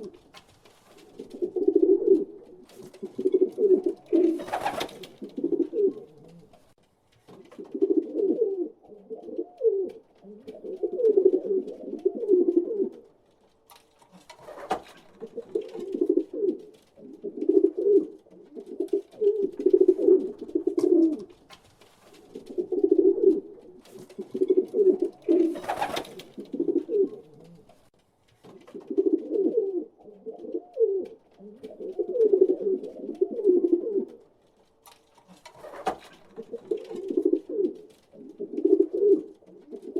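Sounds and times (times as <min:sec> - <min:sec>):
pigeons cooing: 0:00.0 - 0:00.3, 0:01.0 - 0:06.7, 0:07.5 - 0:13.1, 0:14.4 - 0:21.4, 0:22.2 - 0:27.8, 0:28.6 - 0:34.3, 0:35.3 - 0:39.9.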